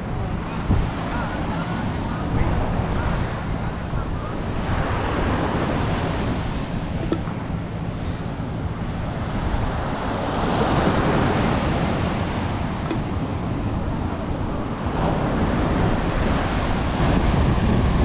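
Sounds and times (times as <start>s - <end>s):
ocean surf breaking: 0.0s - 18.0s
wind rumbling on microphone: 0.0s - 18.0s.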